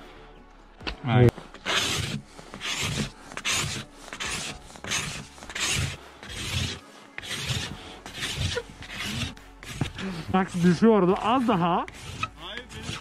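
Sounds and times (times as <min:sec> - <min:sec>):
ice scraper rasping on windshield: 0:01.4 - 0:13.0.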